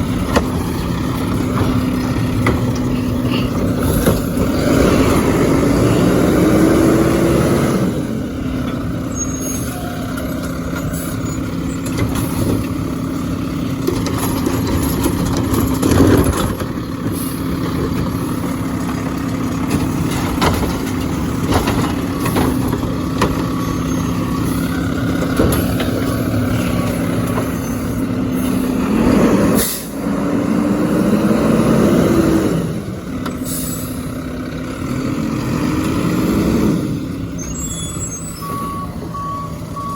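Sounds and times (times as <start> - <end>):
garbage truck engine revving: 0.0 - 39.9.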